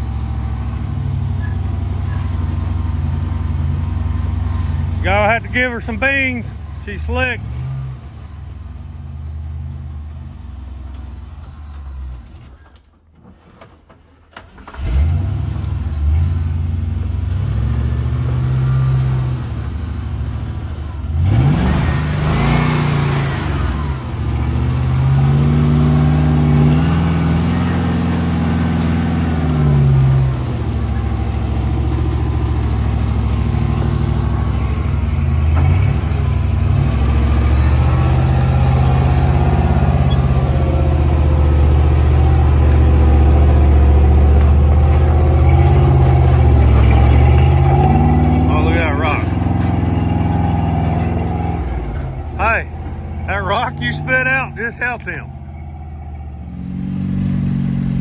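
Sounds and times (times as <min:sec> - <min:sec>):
truck engine revving hard: 0:00.0 - 0:12.3, 0:14.6 - 0:58.0.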